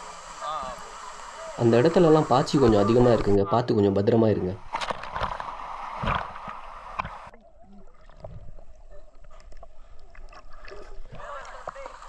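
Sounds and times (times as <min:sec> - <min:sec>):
faint water gurgling: 0:00.0 - 0:12.0
water splashing and rushing: 0:00.0 - 0:12.0.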